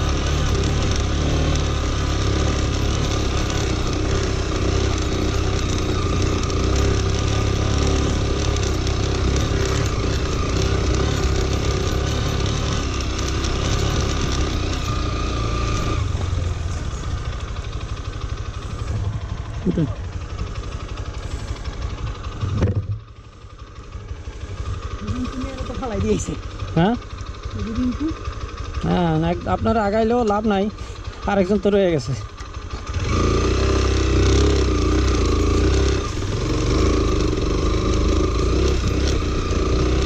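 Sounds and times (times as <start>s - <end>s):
chassis rattling over bumps: 0.0s - 40.0s
motorcycle engine at low revs: 0.0s - 40.0s.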